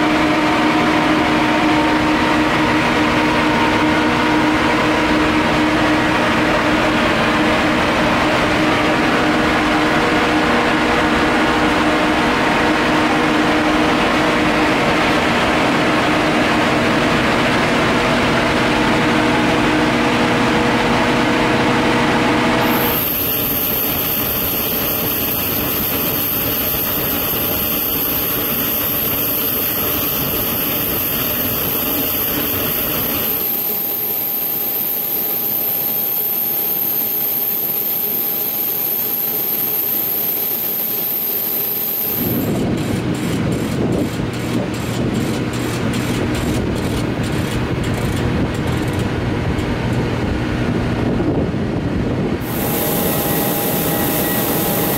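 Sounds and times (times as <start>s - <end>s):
jet turbine rush with high whine: 0.0s - 54.9s.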